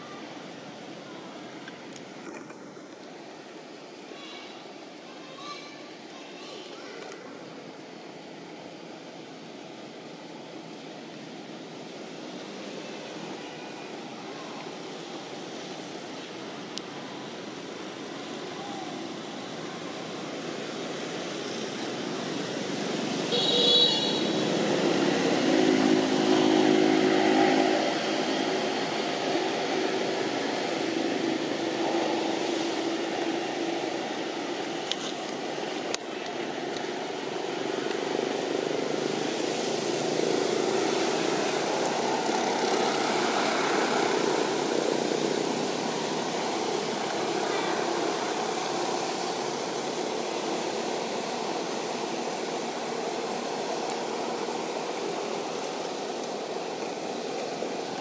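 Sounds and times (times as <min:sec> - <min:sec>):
traffic hum of engines and tyres: 0:00.0 - 0:58.0.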